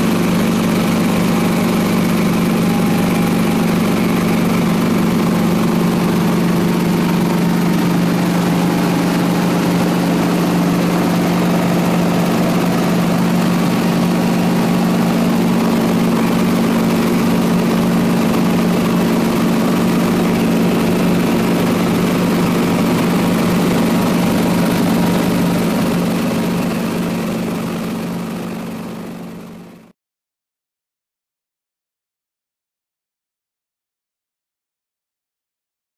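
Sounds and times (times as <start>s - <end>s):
aircraft engine drone in cabin: 0.0s - 29.9s.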